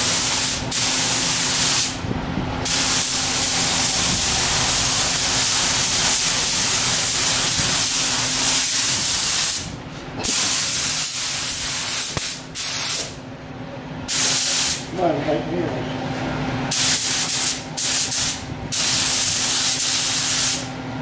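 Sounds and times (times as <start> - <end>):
compressed air gun hissing: 0.0 - 2.0, 2.6 - 13.2, 14.1 - 14.9, 16.7 - 20.7.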